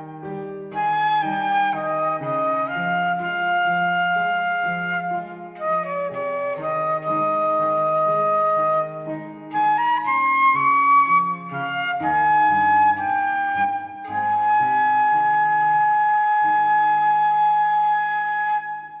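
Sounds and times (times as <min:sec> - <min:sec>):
flute playing slow melody: 0:00.0 - 0:19.0
low-note accompaniment: 0:00.0 - 0:19.0.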